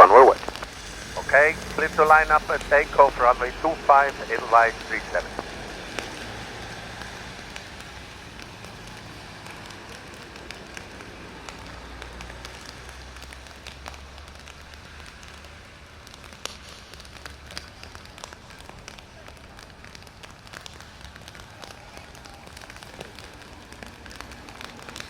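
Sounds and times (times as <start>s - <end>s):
rain falling: 0.0s - 25.0s
raindrops ticking close by: 0.0s - 25.0s.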